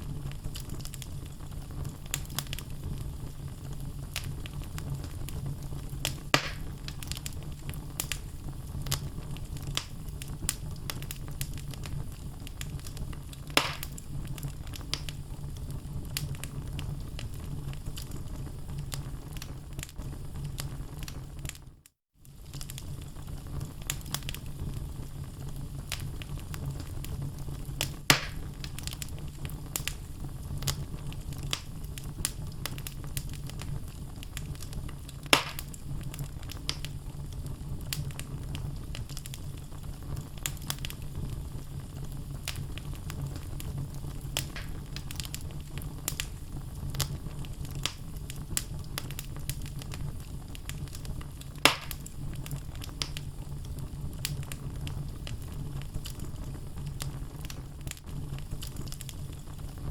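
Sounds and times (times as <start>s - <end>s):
wood logs burning and crackling: 0.0s - 59.9s.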